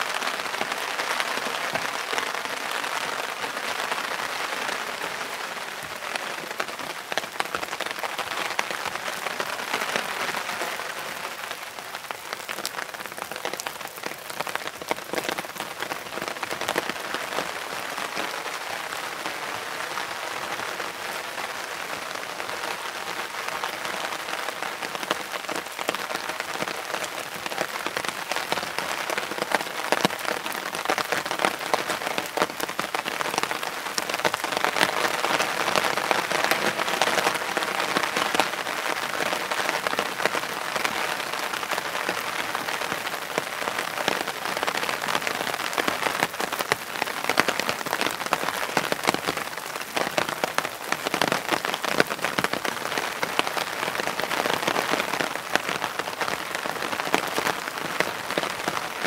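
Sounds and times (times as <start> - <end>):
raindrops ticking on plastic umbrella: 0.0 - 59.0
steady rain: 0.0 - 59.0.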